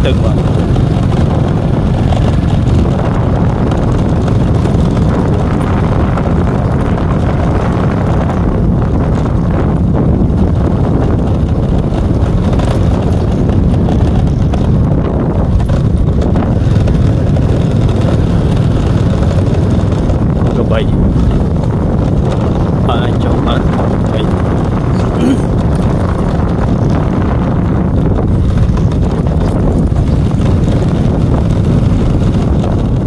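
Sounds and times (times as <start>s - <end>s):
vehicle running: 0.0s - 33.0s
wind rumble on microphone: 0.0s - 33.0s.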